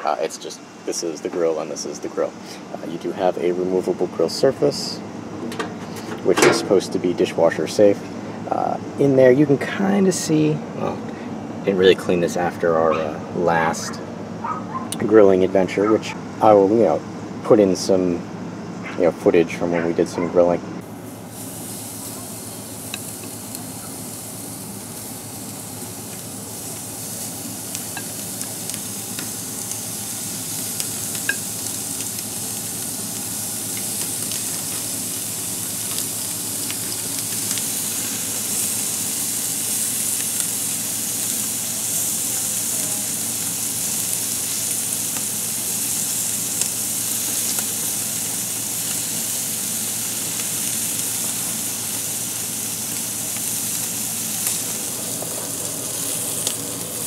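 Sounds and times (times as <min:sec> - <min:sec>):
sausages sizzling on a grill: 0:00.0 - 0:18.2, 0:20.8 - 0:57.0.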